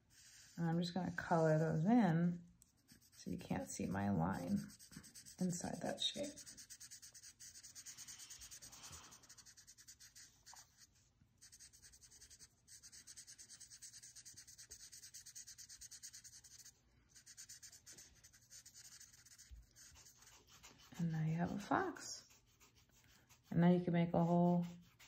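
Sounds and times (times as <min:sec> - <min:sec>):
marker scratching on paper: 0:00.0 - 0:02.1, 0:02.7 - 0:25.0.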